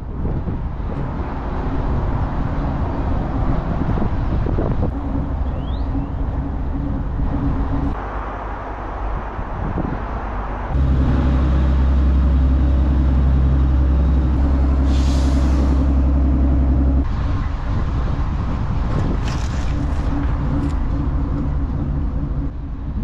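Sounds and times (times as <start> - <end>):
boat engine droning: 1.3 - 9.4, 10.0 - 23.0.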